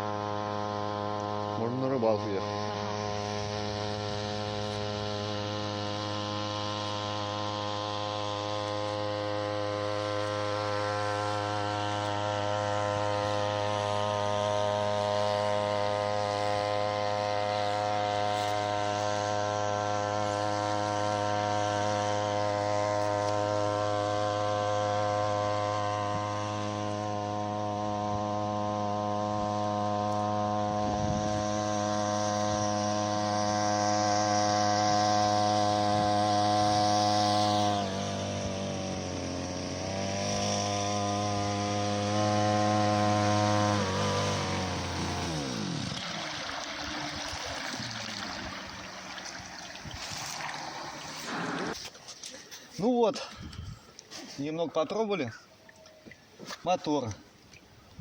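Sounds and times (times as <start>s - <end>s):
outboard motor buzzing: 0.0s - 58.0s.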